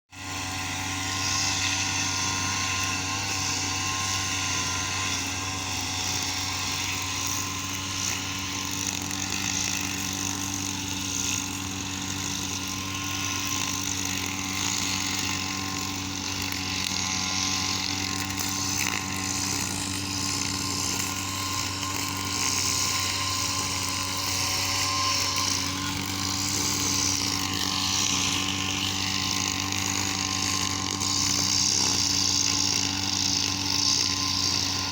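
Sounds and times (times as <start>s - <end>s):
lawn mower engine running: 0.1s - 34.9s.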